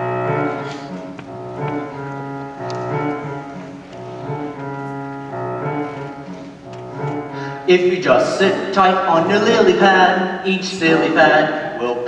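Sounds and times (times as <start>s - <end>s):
instrumental musical accompaniment: 0.0s - 12.0s.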